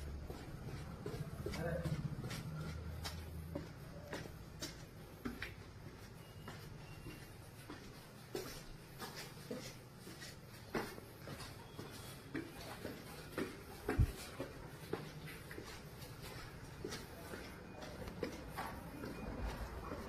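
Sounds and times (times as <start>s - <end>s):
footsteps on concrete stairs: 0.0s - 20.0s.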